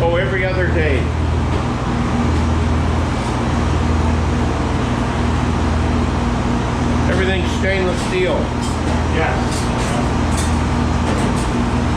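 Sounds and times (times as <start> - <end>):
milking machinery humming: 0.0 - 11.9.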